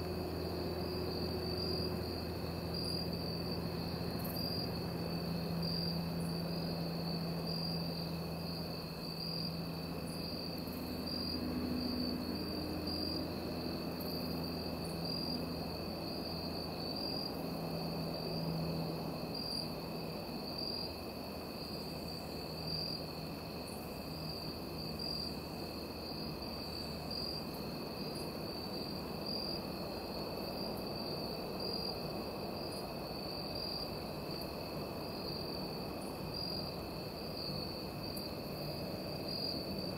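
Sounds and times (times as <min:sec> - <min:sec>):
crickets chirring: 0:00.0 - 0:39.9
faint low hum: 0:00.0 - 0:39.9.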